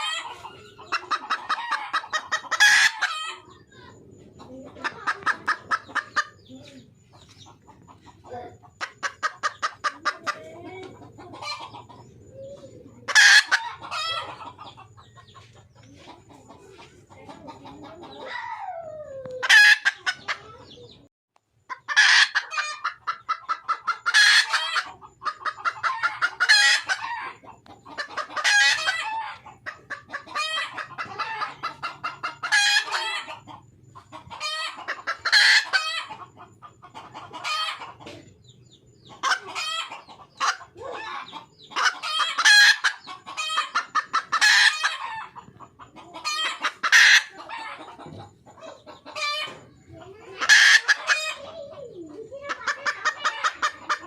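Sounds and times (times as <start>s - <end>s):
hen cackling: 0.0s - 21.1s, 21.7s - 54.0s.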